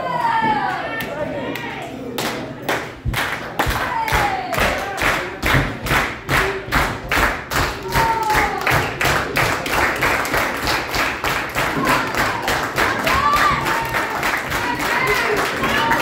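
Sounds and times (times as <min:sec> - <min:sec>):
crowd clapping in unison: 0:02.2 - 0:16.0.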